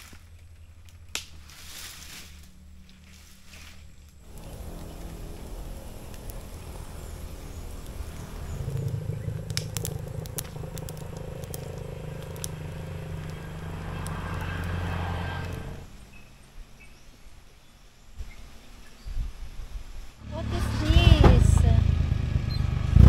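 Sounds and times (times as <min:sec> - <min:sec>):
engine humming: 0:00.0 - 0:18.1, 0:20.1 - 0:23.0.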